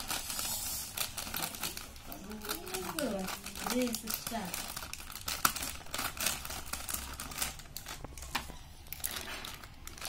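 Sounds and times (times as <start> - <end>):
plastic packet crackling: 0.0 - 10.0.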